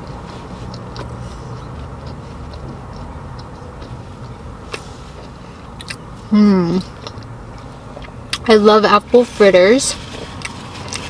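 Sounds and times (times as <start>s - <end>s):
person chewing food: 0.0s - 8.5s, 10.0s - 11.0s
low hum inside car: 0.0s - 11.0s.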